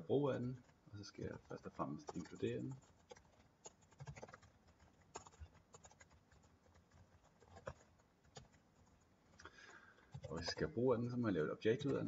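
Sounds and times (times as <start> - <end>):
faint keyboard typing: 0.0 - 12.0.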